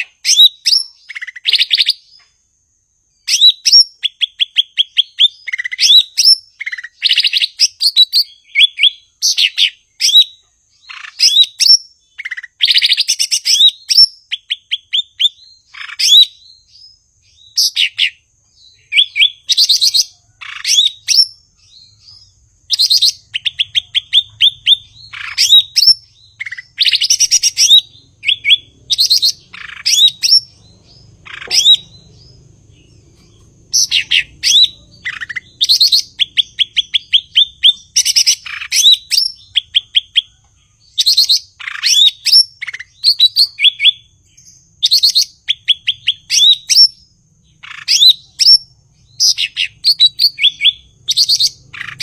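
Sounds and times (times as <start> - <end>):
bird singing trills and whistles: 0.0 - 52.0.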